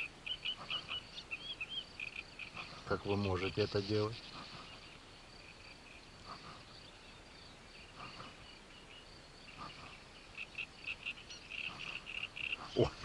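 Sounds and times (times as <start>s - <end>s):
small animals chirping: 0.0s - 13.0s.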